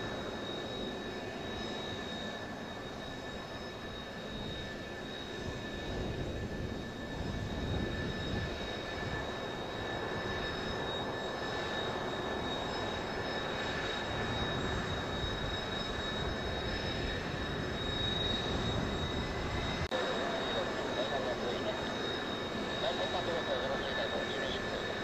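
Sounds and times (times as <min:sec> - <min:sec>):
jet engines idling: 0:00.0 - 0:25.0.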